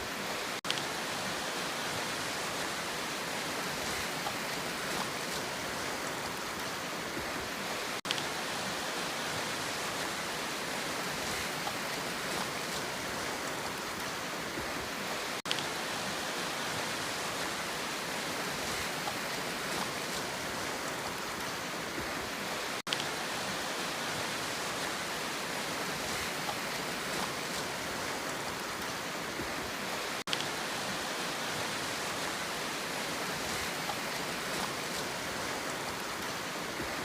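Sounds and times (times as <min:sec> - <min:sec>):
sea water rushing: 0:00.0 - 0:37.0.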